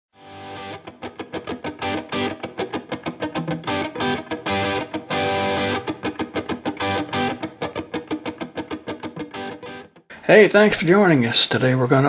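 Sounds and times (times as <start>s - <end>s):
distorted electric guitar: 0.2s - 9.9s.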